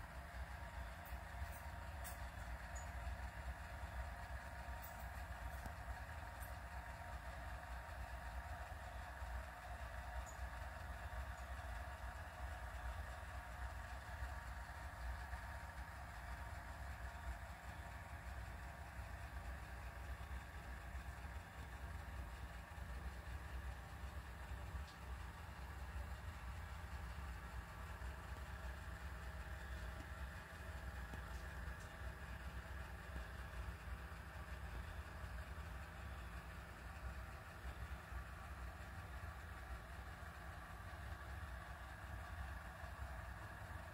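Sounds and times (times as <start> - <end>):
low machine rumble: 0.0 - 43.9.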